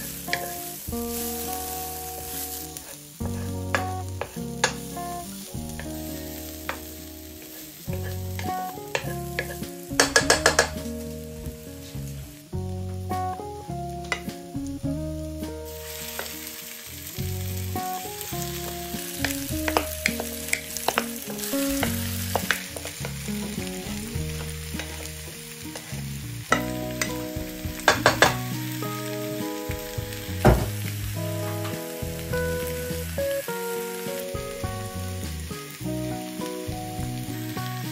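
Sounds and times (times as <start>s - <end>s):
background music: 0.0s - 37.9s
food sizzling in frying pan: 0.0s - 37.9s.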